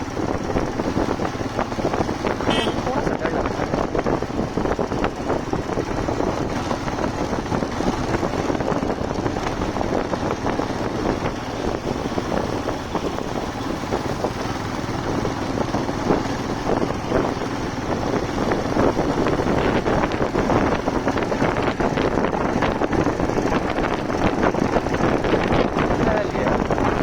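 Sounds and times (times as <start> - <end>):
motorcycle engine: 0.0 - 27.0
road noise: 0.0 - 27.0
wind buffeting microphone: 0.0 - 27.0.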